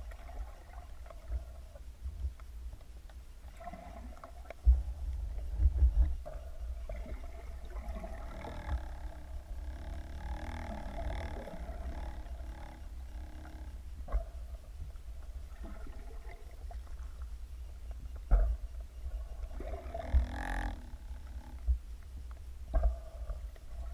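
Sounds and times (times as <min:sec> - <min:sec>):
underwater low rumble: 0:00.0 - 0:23.9
droning pitched tone: 0:03.8 - 0:23.9.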